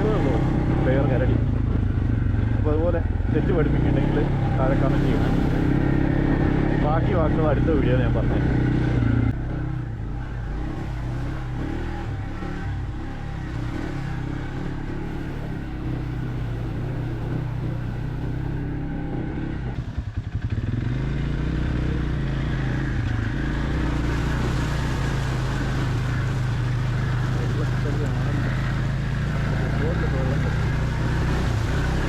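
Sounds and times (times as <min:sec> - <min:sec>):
quad engine running: 0:00.0 - 0:32.0.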